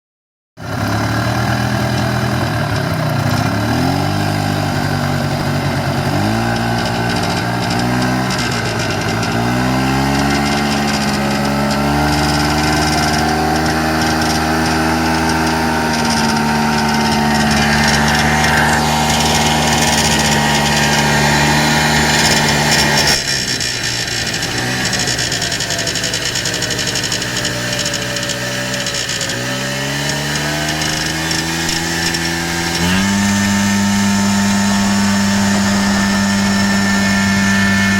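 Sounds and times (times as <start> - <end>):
atv engine revving: 0.6 - 37.9
engine buzz: 0.6 - 37.9.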